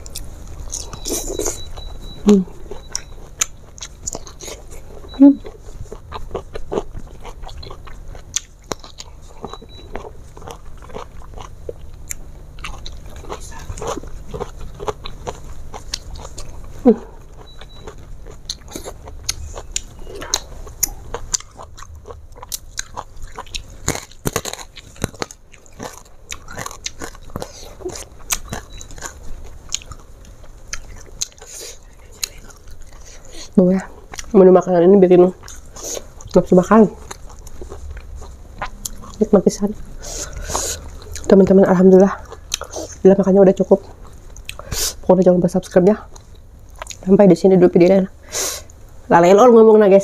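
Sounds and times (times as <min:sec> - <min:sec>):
chewing and biting food: 0:00.0 - 0:34.5, 0:35.2 - 0:45.0, 0:46.1 - 0:47.1
food crunching: 0:00.0 - 0:47.2.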